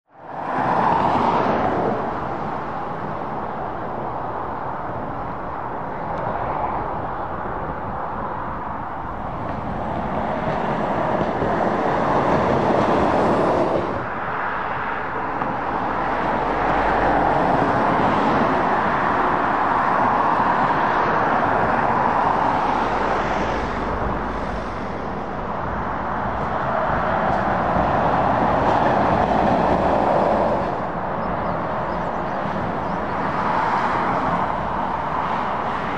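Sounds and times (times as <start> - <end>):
passing lorries and cars: 0.1 - 35.9.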